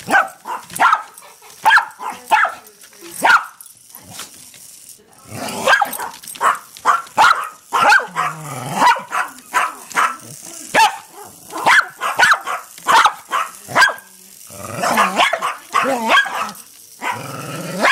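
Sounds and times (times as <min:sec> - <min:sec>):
dog barking: 0:00.1 - 0:02.6, 0:03.2 - 0:03.6, 0:05.6 - 0:14.1, 0:14.8 - 0:17.9.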